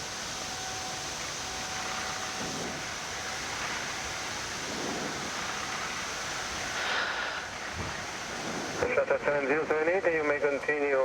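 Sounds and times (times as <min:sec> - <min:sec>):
faint steady hum: 0:00.0 - 0:11.0
steady rushing noise: 0:00.0 - 0:11.0.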